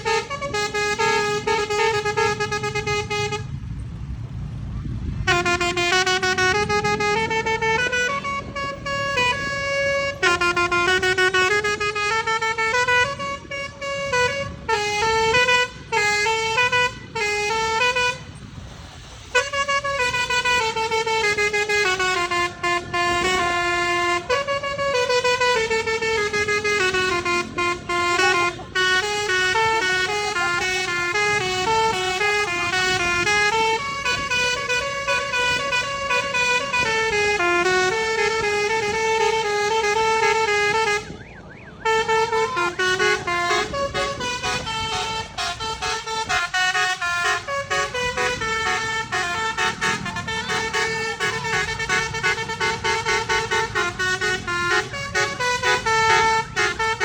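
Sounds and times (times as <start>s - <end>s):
musical air horn playing tune: 0.0s - 3.6s, 5.2s - 57.0s.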